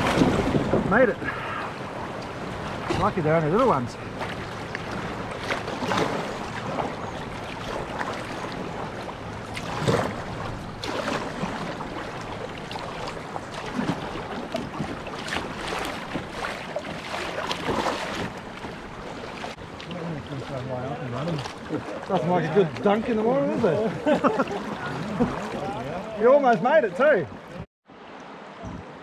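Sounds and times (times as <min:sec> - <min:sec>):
river water rushing: 0:00.0 - 0:29.0
water splashing: 0:00.0 - 0:29.0.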